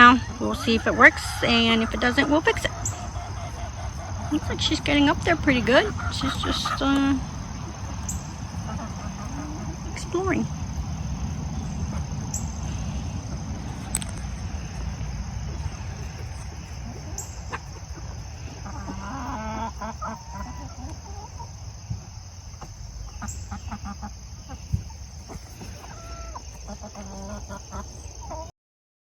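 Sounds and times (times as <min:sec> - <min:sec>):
low steady rumble: 0:00.0 - 0:23.7
chickens clucking: 0:00.0 - 0:28.5.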